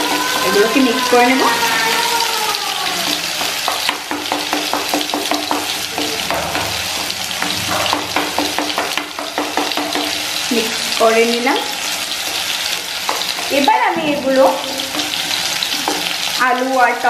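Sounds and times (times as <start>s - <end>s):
pan sizzling: 0.0s - 17.0s.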